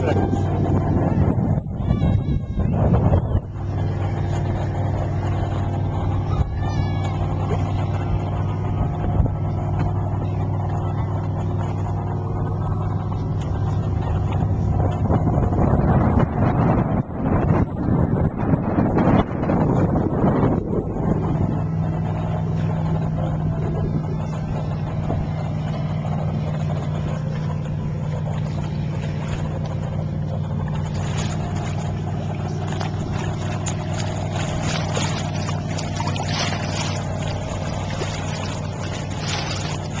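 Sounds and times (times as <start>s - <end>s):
boat engine humming: 0.0s - 40.0s
water splashing on hull: 0.0s - 40.0s.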